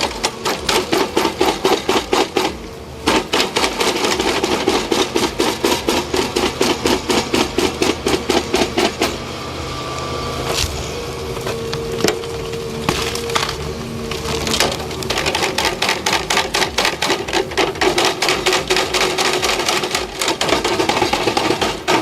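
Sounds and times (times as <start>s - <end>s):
machine running with clattering knocks: 0.0s - 9.3s, 10.5s - 22.0s.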